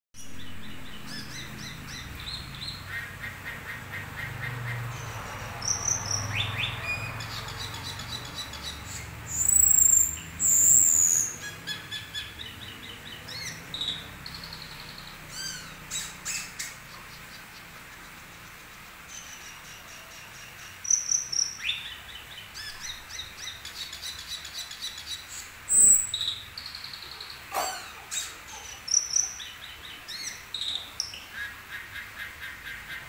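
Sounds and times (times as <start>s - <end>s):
bird singing chirps and trills: 0.2s - 33.0s.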